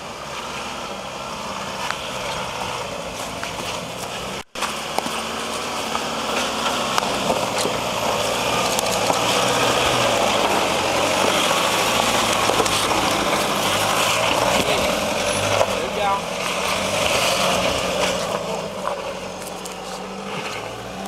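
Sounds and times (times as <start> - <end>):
car engine running under load: 0.0 - 21.0
tyres crunching over rock: 1.8 - 21.0.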